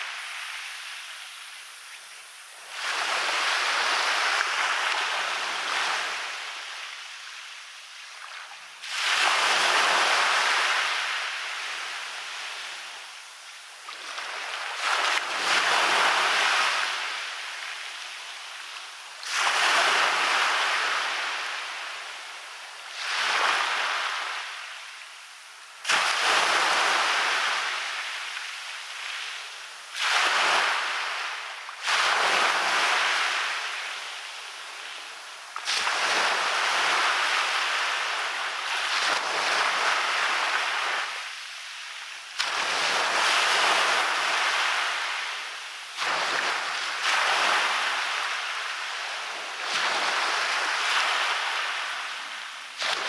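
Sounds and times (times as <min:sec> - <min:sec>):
waves breaking on a beach: 0:00.0 - 0:53.0.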